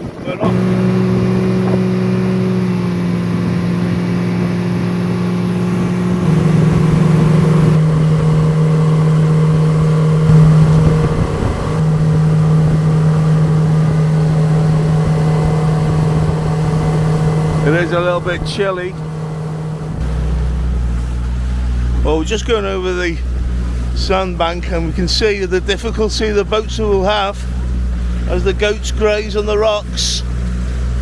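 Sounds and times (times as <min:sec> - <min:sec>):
speedboat engine running: 0:00.0 - 0:31.0.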